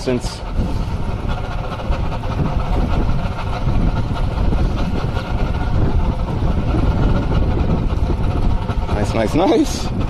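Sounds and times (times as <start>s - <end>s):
boat engine running: 0.0s - 10.0s
wind rumbling on microphone: 0.0s - 10.0s.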